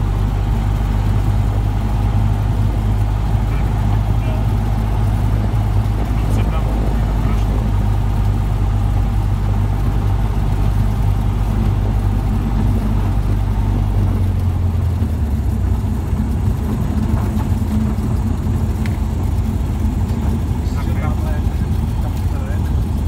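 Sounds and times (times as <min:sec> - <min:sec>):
light aircraft engine droning: 0:00.0 - 0:23.0.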